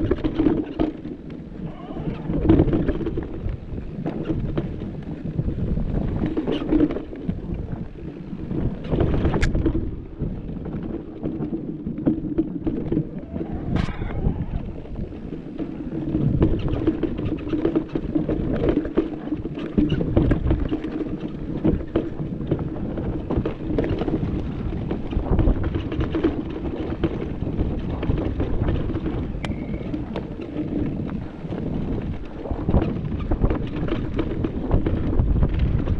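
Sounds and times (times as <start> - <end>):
bike rattling on bumpy trail: 0.0 - 35.9
wind buffeting microphone: 0.0 - 35.9.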